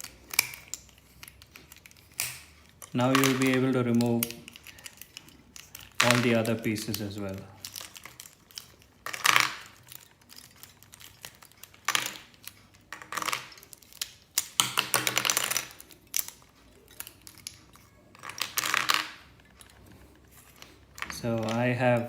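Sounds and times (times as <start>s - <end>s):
plastic puzzle pieces clicking: 0.0s - 22.0s.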